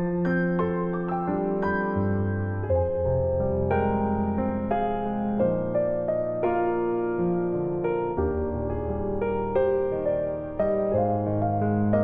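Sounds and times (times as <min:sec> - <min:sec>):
slow solo piano piece: 0:00.0 - 0:12.0.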